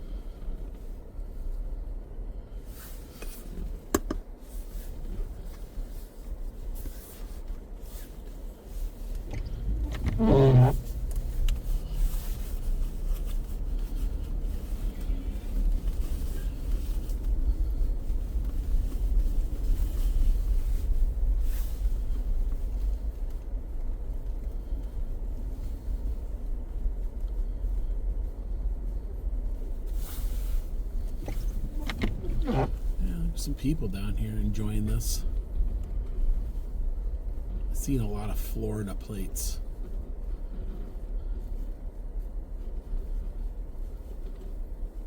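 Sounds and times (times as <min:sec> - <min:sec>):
car driving rumble: 0:00.0 - 0:45.0.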